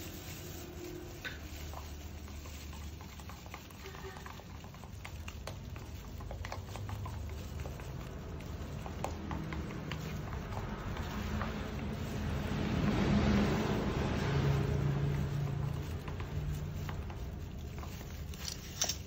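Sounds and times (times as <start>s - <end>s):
brush tapping plastic tub: 0.0s - 19.0s.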